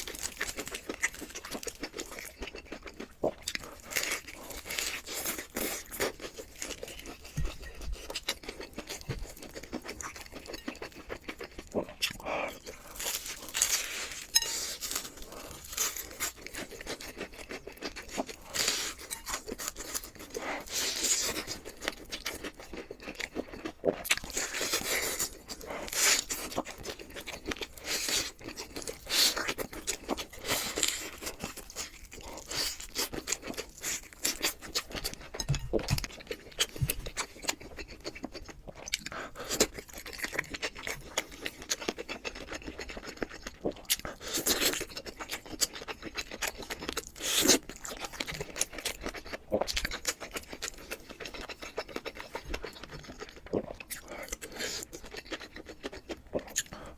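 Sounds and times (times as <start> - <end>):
wet chewing and crunching: 0.0 - 56.9.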